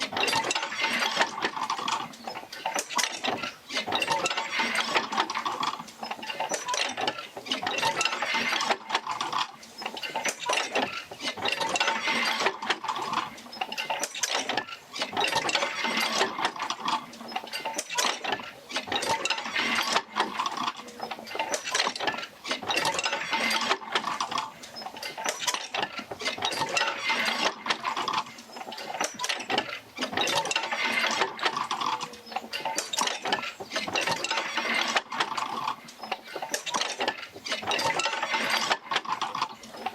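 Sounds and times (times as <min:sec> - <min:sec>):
wheel and rods clanking rhythmically: 0:00.0 - 0:39.9.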